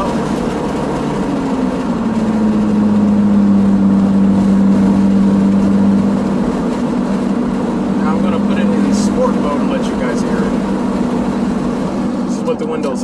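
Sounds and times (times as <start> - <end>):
car engine drone: 0.0 - 13.0
road and wind noise: 0.0 - 13.0.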